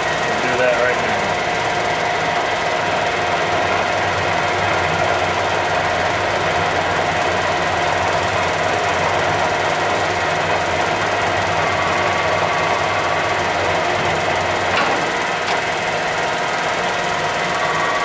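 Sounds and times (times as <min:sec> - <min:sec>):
lathe humming with whine: 0:00.0 - 0:18.0.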